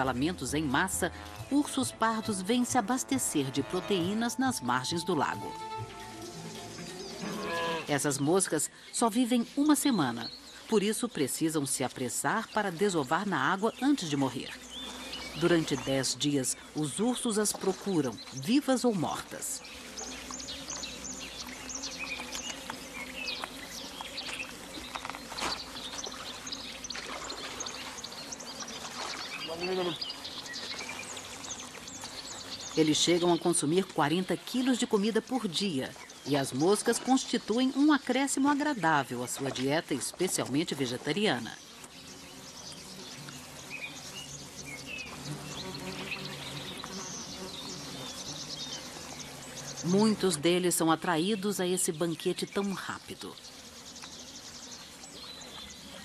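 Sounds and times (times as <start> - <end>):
insects hissing: 0.0 - 56.0
small birds chirping: 3.9 - 56.0.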